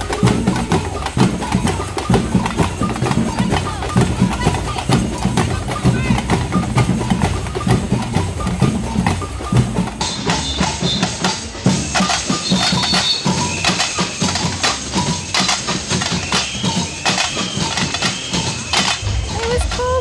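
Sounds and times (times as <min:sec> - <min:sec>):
percussion band drumming: 0:00.0 - 0:20.0.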